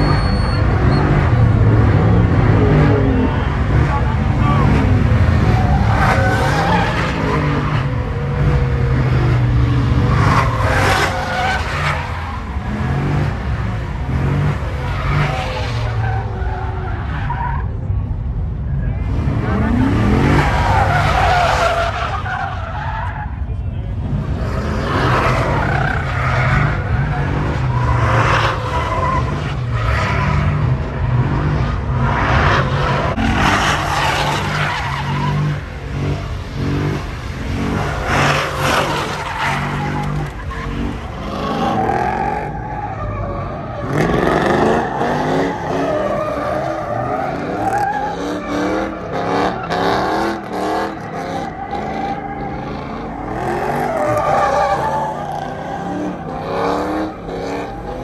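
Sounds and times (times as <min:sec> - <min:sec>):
tires squealing on pavement: 0:00.0 - 0:18.0, 0:19.0 - 0:58.0
truck engines revving: 0:00.0 - 0:58.0.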